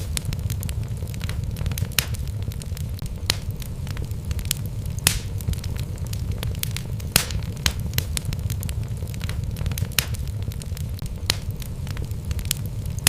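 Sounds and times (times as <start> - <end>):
fire crackling in fireplace: 0.0 - 13.0.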